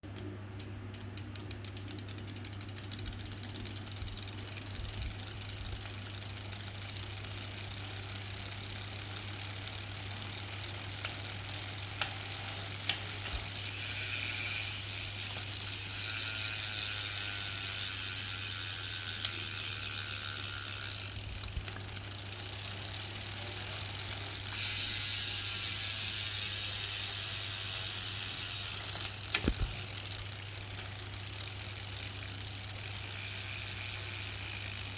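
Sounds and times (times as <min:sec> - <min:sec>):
bicycle drivetrain clicking: 0:00.9 - 0:34.9.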